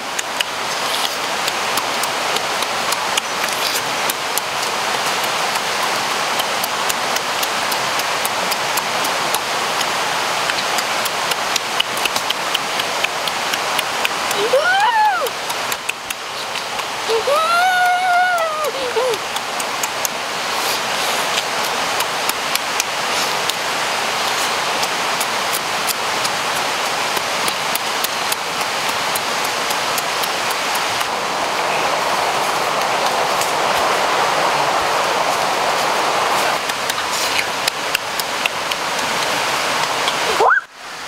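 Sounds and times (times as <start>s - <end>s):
steady rushing noise: 0.0s - 41.0s.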